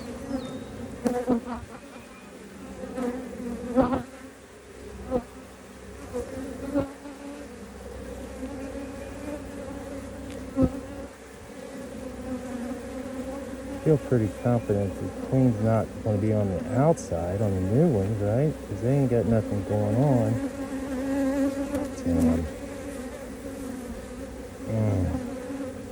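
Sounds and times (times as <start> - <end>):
honeybees buzzing: 0.0 - 25.9.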